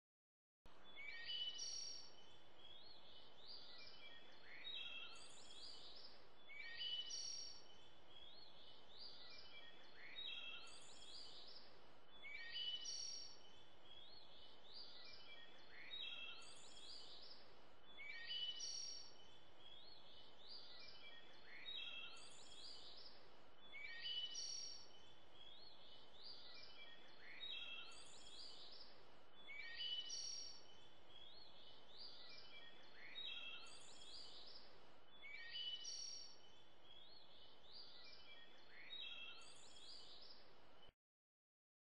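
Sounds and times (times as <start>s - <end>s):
songbird chirping: 0.7s - 40.9s.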